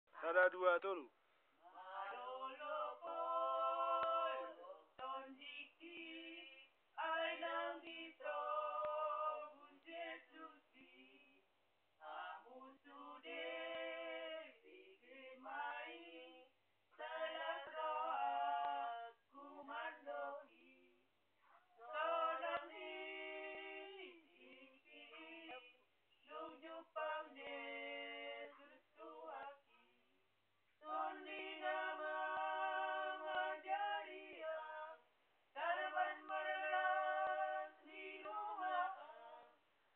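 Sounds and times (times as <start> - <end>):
women singing a hymn unaccompanied: 1.6 - 30.1, 30.8 - 39.6.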